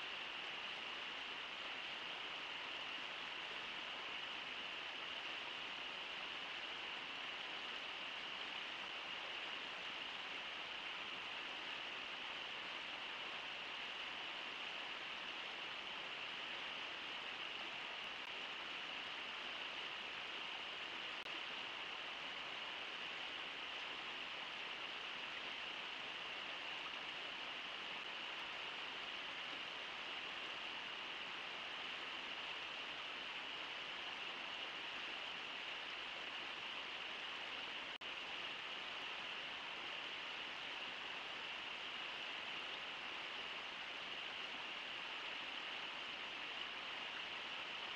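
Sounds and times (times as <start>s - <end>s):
river rushing: 0.0s - 47.9s.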